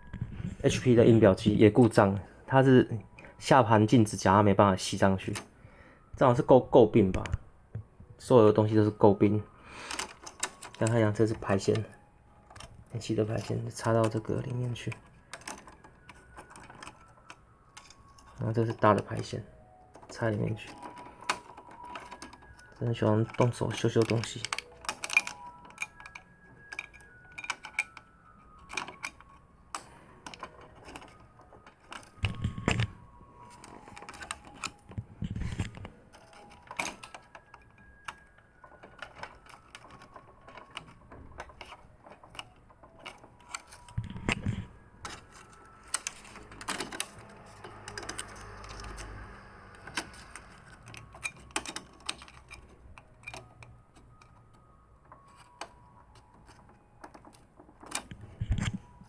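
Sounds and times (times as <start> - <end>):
plastic printer parts clicking: 8.6 - 59.0.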